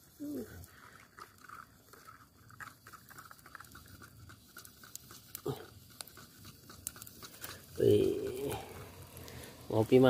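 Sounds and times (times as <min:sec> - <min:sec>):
twig scraping bamboo cup: 0:00.0 - 0:09.8.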